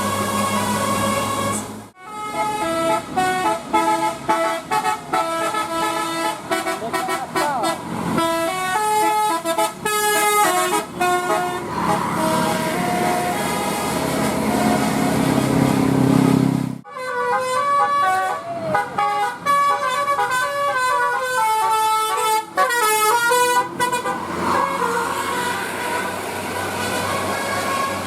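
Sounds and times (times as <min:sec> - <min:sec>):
musical air horn playing a tune: 0:00.0 - 0:15.4, 0:16.8 - 0:28.0
bus engine running: 0:00.0 - 0:16.8, 0:18.9 - 0:28.0.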